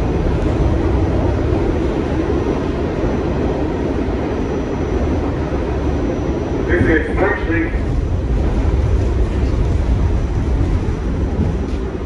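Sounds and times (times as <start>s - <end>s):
subway train rumbling at speed: 0.0s - 12.0s.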